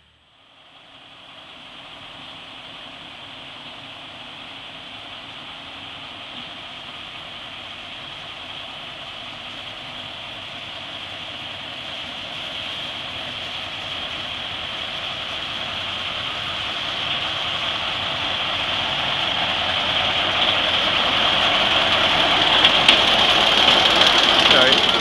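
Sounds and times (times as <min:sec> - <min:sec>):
diesel locomotive running with whine: 0:00.0 - 0:25.0.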